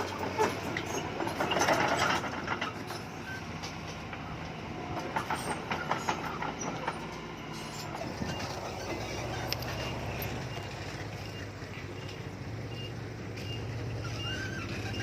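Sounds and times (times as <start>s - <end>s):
bulldozer diesel engine running: 0.0s - 15.0s
steel tracks clanking and rattling: 0.0s - 15.0s.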